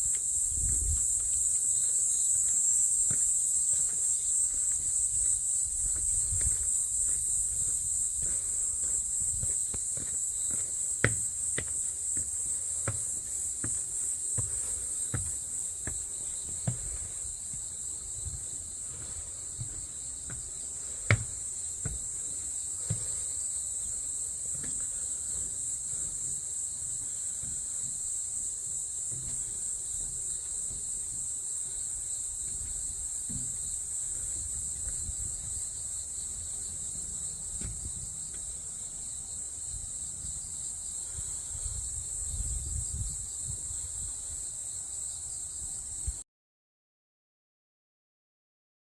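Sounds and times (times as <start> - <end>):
insects droning: 0.0 - 46.2.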